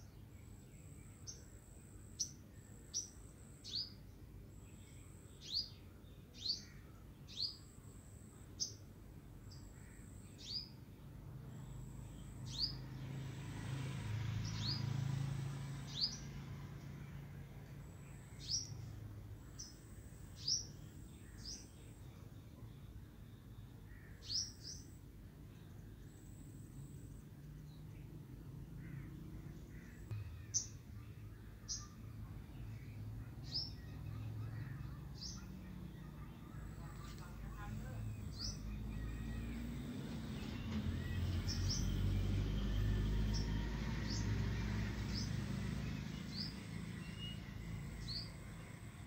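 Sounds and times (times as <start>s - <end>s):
bird chirping: 0.0s - 8.8s, 9.4s - 13.4s, 14.3s - 49.0s.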